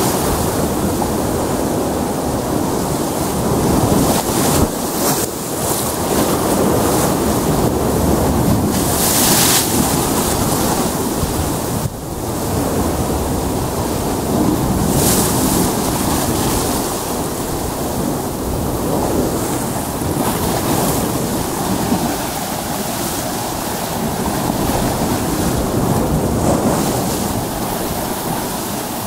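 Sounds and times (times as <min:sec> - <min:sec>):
surf breaking on rocky shore: 0:00.0 - 0:29.0.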